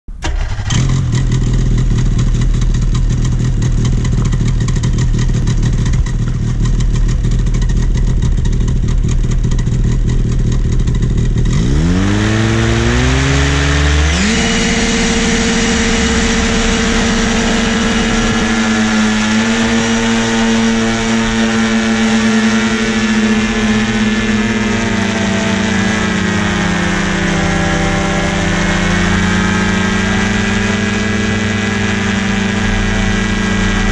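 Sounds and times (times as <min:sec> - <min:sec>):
propeller engine revving: 0:00.1 - 0:33.9.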